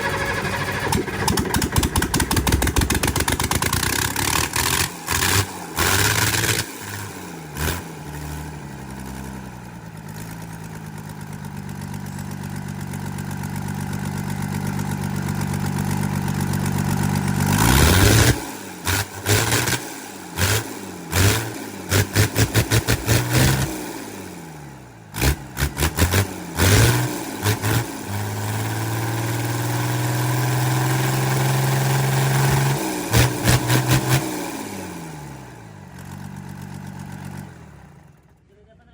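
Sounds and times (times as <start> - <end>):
diesel engine running: 0.0 - 38.8.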